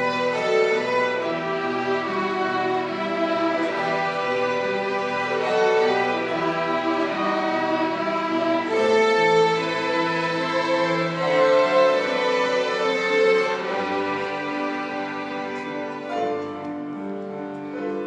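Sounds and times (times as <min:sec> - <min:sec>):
violin ensemble playing: 0:00.0 - 0:18.0.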